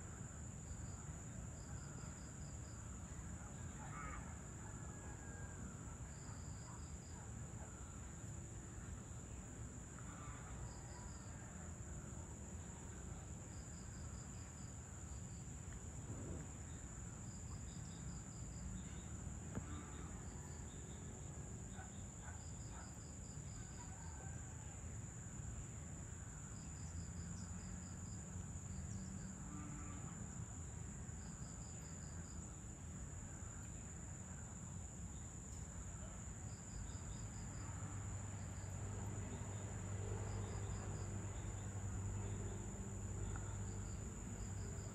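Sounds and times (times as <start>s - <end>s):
insect drone: 0.0s - 44.9s.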